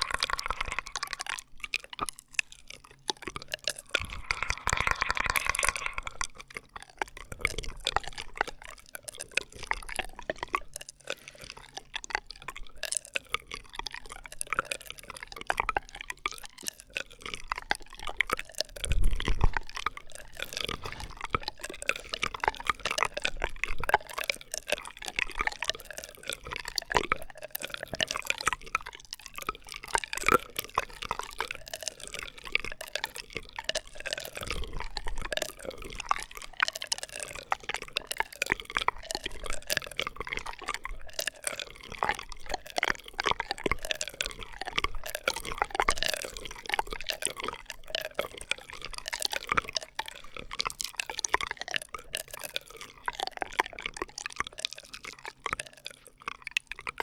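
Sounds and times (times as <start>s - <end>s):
wet bubbly straw clicks and pops: 0.0s - 57.0s.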